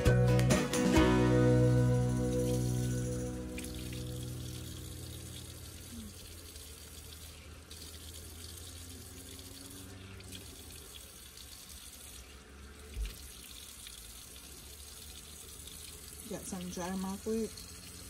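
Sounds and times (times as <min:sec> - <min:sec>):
tap water splashing in basin: 0:03.5 - 0:18.0.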